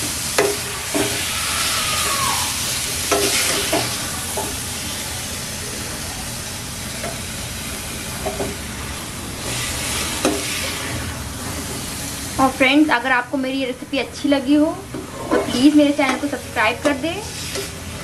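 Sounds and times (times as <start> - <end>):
hot pan sizzling: 0.0 - 18.0.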